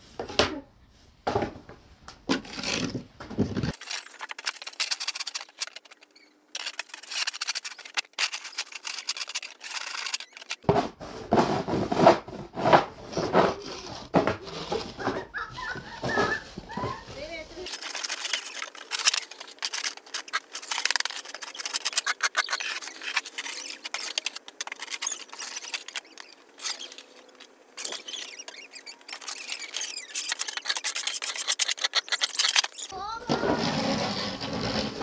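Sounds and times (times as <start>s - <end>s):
plastic shovels scraping snow: 6.6s - 35.0s.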